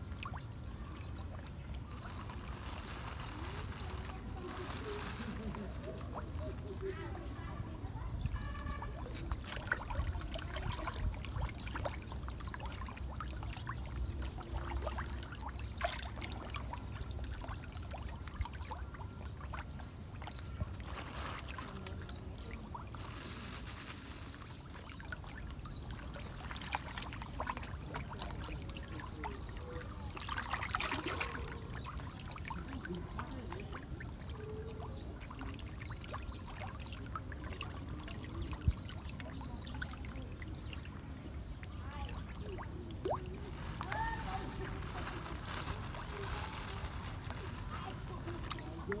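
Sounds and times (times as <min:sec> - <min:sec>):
fish splashing at water surface: 0:08.2 - 0:49.0.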